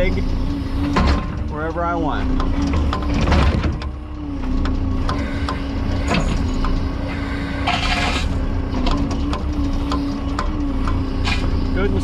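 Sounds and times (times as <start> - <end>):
excavator diesel engine humming: 0.0 - 12.0
hydraulics moving: 0.0 - 12.0.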